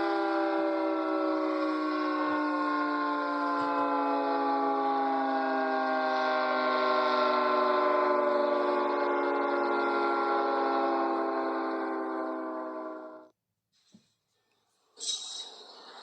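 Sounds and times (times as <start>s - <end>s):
warning siren falling in pitch: 0.0s - 13.3s.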